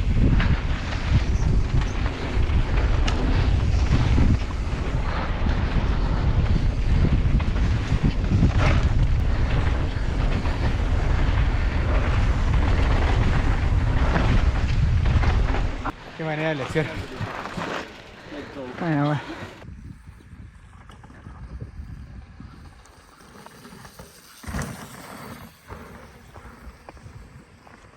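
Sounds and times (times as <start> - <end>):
bike clicks and rattles: 0.0 - 19.7, 20.6 - 27.9
wind buffeting microphone: 0.0 - 27.9.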